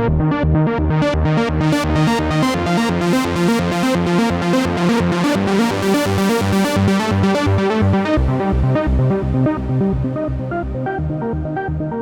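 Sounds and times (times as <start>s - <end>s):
low bass pulse: 0.0s - 12.0s.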